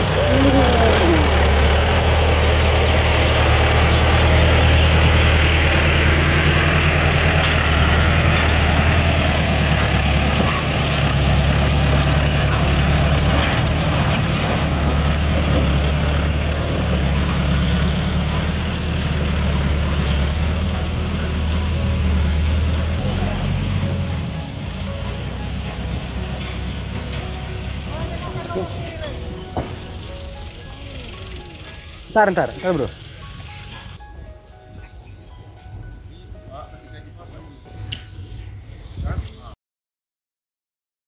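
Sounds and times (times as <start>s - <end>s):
diesel tractor engine running: 0.0s - 34.6s.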